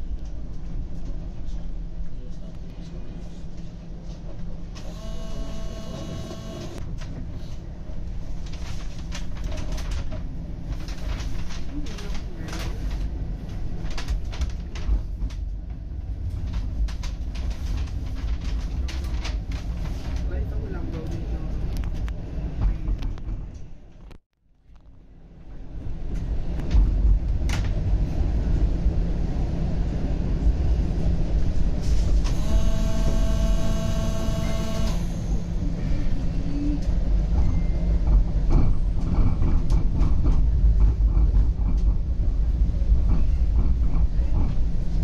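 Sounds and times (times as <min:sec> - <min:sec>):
streetcar wheels rumbling on rails: 0:00.0 - 0:24.1, 0:25.1 - 0:45.0.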